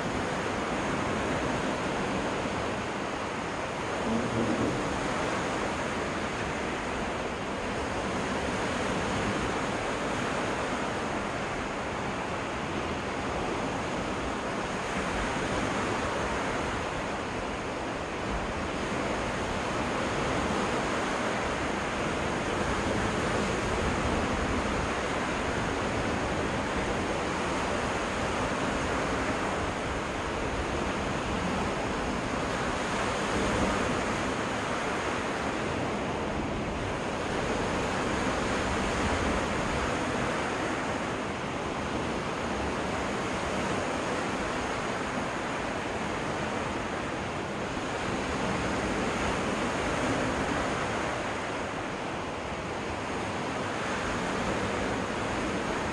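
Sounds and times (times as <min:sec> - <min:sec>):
lake waves washing onto beach: 0:00.0 - 0:55.9.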